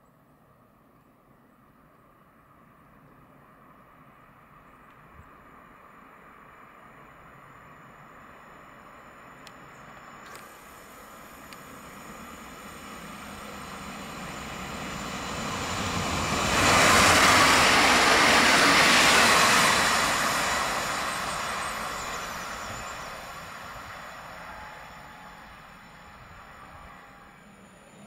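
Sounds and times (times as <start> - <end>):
electric train passing: 5.4 - 28.0.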